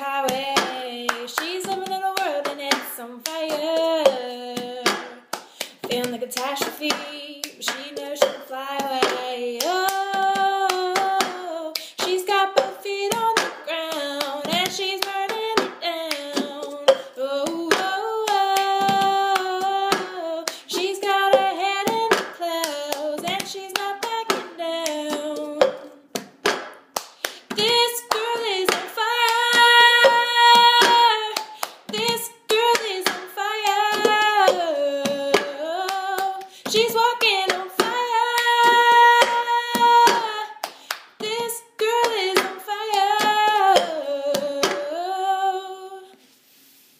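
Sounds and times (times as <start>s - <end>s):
woman singing pop melody: 0.0s - 26.1s, 27.3s - 46.2s
hand claps keeping beat: 0.0s - 45.0s.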